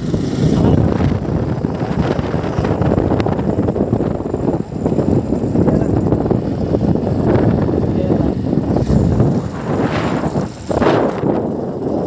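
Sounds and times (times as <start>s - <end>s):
vehicle rumble: 0.0s - 12.0s
wind buffeting microphone: 0.0s - 12.0s.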